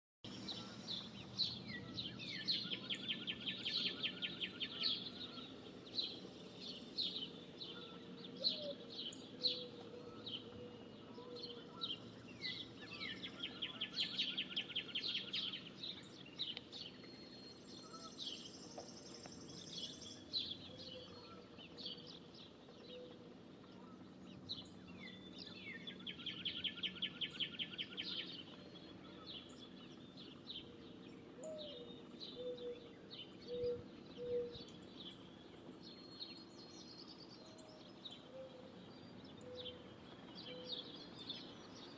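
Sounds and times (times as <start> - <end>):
songbirds chirping: 0.2 - 41.9.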